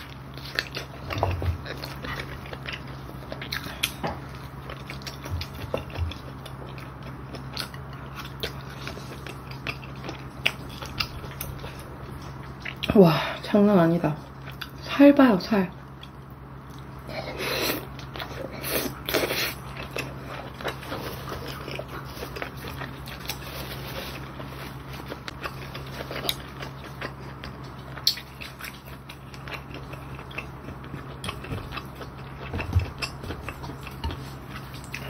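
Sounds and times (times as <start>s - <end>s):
chewing with wet mouth clicks: 0.0s - 13.0s, 14.3s - 14.8s, 17.9s - 23.6s, 25.0s - 35.0s.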